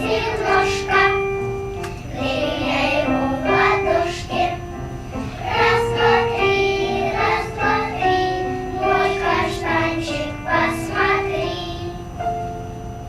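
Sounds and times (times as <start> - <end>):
children's choir singing: 0.0 - 12.3.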